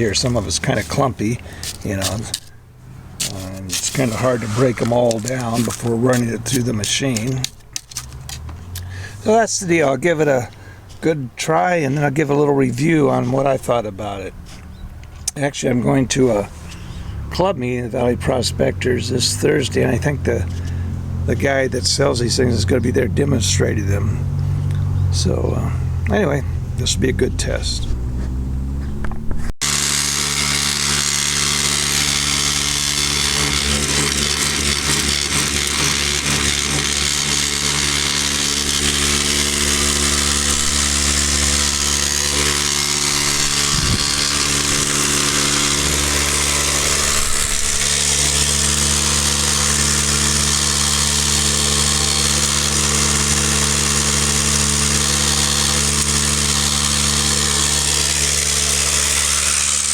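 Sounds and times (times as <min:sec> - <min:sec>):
electric motor hum: 0:00.0 - 0:11.1, 0:17.9 - 0:59.9.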